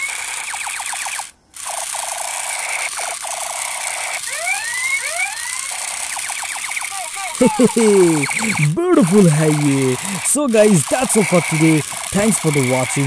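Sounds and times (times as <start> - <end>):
toy gun rapid-fire rattle: 0.0 - 8.5, 9.4 - 13.0.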